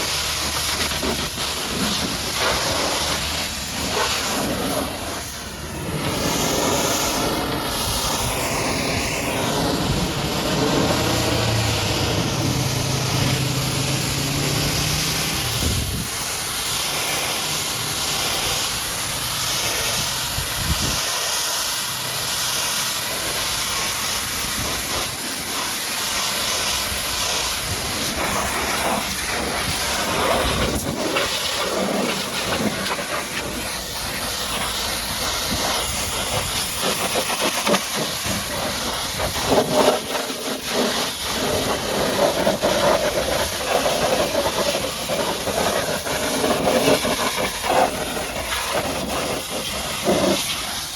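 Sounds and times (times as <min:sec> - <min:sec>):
pressure washer spraying: 0:00.0 - 0:50.9.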